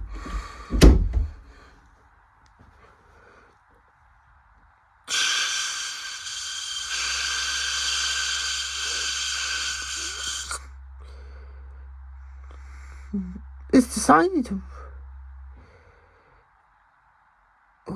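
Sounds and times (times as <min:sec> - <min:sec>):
low machine hum: 0:00.0 - 0:02.4, 0:03.2 - 0:17.9.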